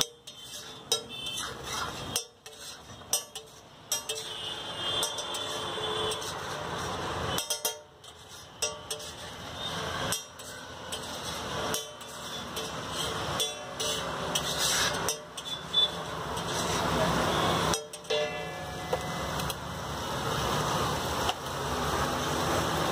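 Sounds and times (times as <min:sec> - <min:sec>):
knife scraping metal griddle: 0:00.0 - 0:19.0
sizzling: 0:00.0 - 0:22.9
street traffic: 0:00.0 - 0:22.9.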